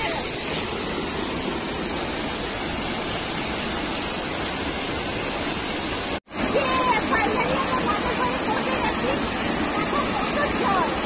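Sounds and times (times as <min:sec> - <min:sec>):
water pouring over rock ledge: 0:00.0 - 0:11.0.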